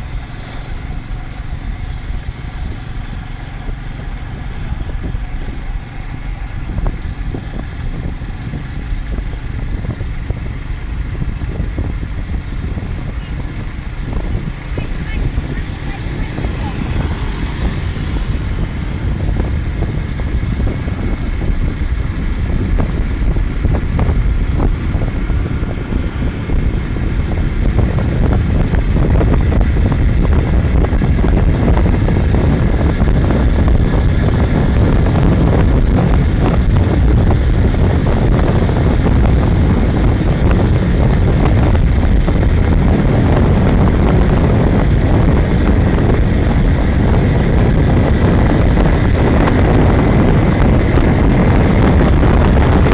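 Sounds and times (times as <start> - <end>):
motorcycle engine: 0.0 - 52.9
road noise: 0.0 - 52.9
wind on microphone: 0.0 - 52.9.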